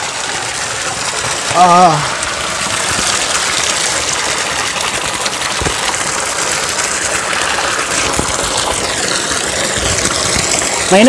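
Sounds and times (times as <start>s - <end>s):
water gushing onto rocks: 0.0s - 11.0s.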